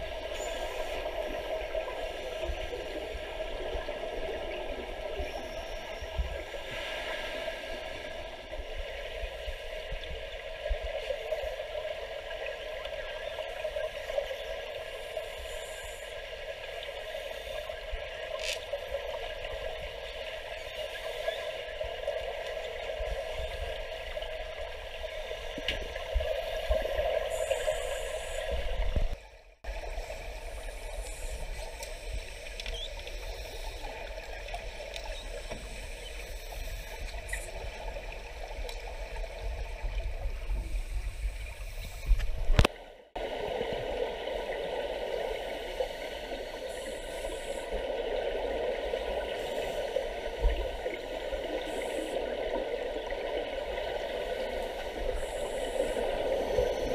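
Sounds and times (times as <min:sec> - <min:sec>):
muffled water hiss: 0:00.0 - 0:56.9.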